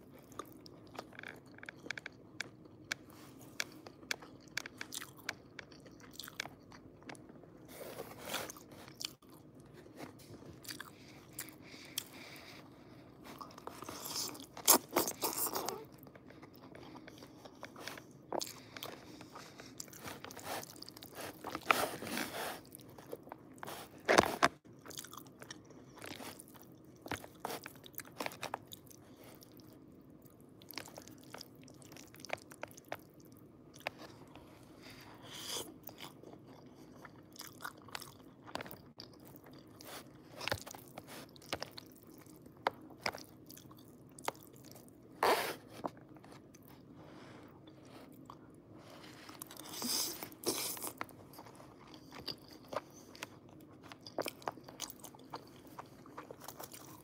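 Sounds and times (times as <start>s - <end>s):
chewing and mouth sounds: 0.0s - 46.9s, 47.6s - 57.0s.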